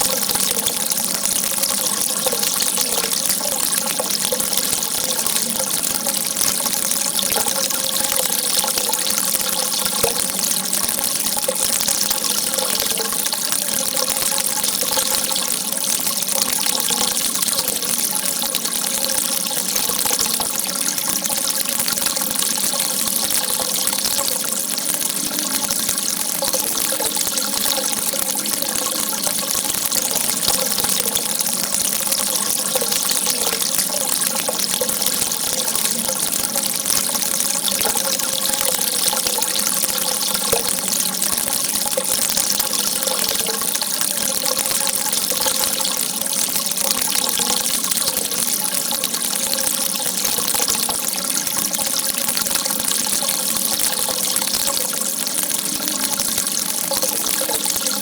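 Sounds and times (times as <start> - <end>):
water gushing: 0.0 - 58.0.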